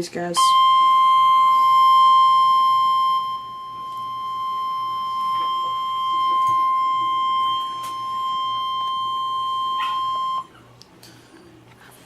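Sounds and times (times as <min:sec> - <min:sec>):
steady radio alert tone: 0:00.4 - 0:10.5.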